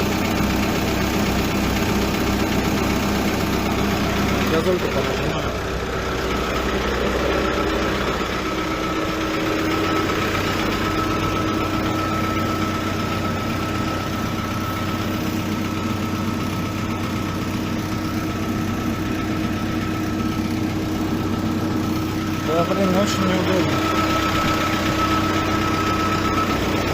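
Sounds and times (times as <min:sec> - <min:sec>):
diesel engine running steadily: 0:00.0 - 0:26.9.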